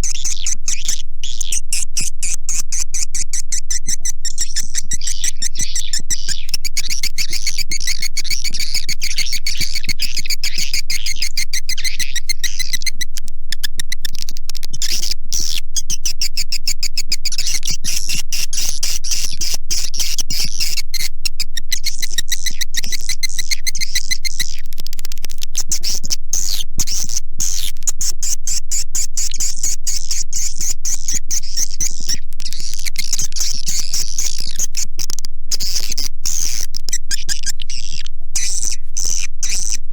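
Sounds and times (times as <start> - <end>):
recorded swiftlet chirping: 0.0 - 24.7, 25.3 - 39.8
steady low hum: 0.0 - 39.9.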